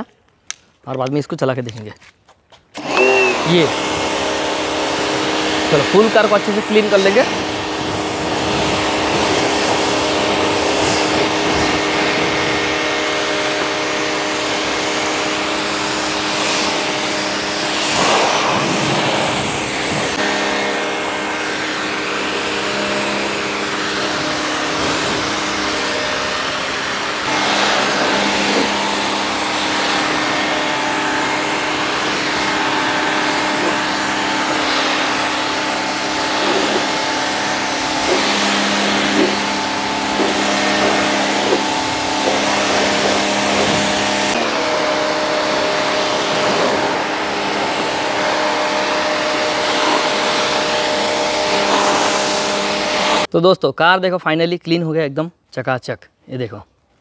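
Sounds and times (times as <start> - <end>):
pressure washer pump whining: 2.7 - 53.3
water jet hissing: 2.8 - 53.3.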